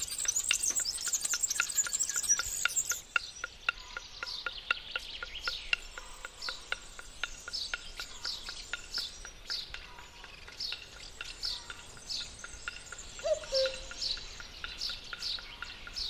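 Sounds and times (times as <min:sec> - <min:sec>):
birds chirping: 0:00.0 - 0:16.0
fast steady ticking: 0:00.0 - 0:16.0.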